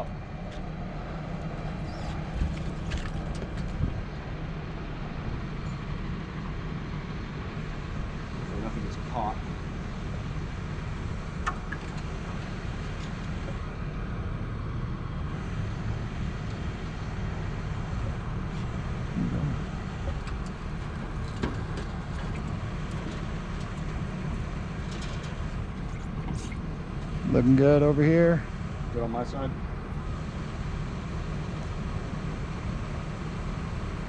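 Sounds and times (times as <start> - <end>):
crane engine rumble: 0.0 - 34.0.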